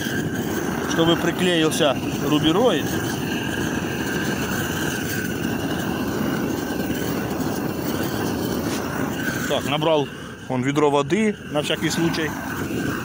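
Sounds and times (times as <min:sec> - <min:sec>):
gas torch flame rushing: 0:00.0 - 0:13.0.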